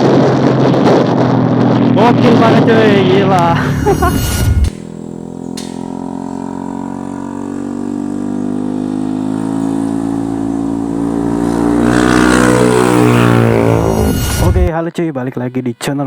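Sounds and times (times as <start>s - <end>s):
motorcycle engine accelerating: 0.0s - 14.7s.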